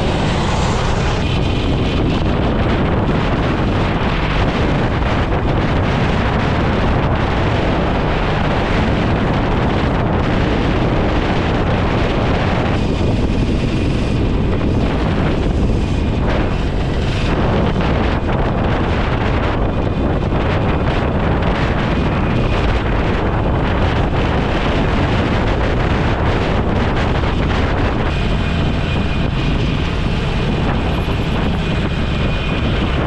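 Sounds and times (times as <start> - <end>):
motorcycle engine: 0.0 - 33.0
road noise: 0.0 - 33.0
wind rushing over microphone: 0.0 - 33.0.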